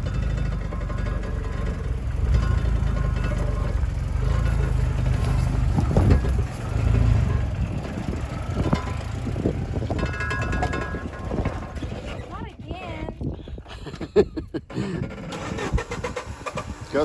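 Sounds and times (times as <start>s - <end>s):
engine and drivetrain rumble: 0.0s - 17.0s.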